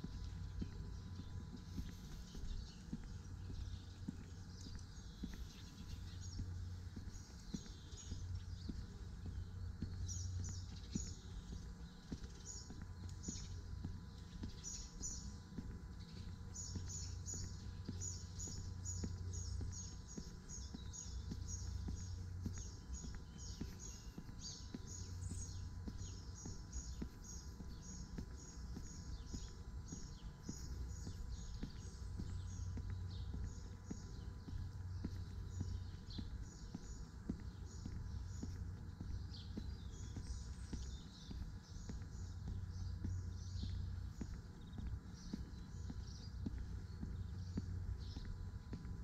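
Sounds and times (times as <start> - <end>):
small bird chirping: 0.0 - 49.0
soft footsteps: 0.0 - 49.0.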